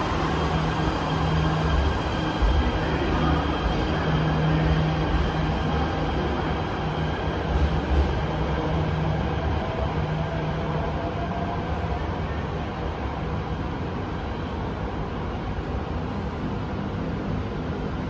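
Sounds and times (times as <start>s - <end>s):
electric train rumbling: 0.0s - 18.0s
low train hum: 0.0s - 18.0s.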